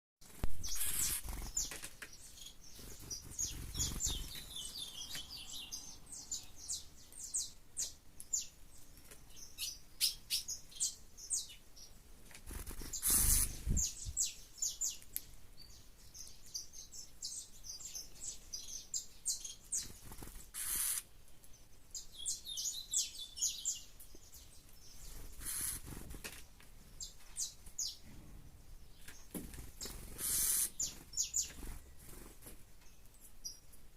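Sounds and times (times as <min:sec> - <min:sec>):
songbirds chirping: 0:00.2 - 0:33.9.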